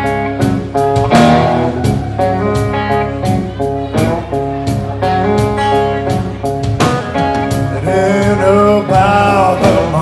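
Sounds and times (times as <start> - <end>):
blues guitar playing: 0.0 - 10.0.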